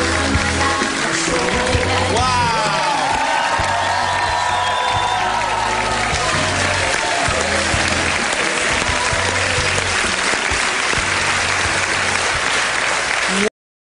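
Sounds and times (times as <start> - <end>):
audience applauding: 0.0 - 13.5
music: 0.0 - 13.5.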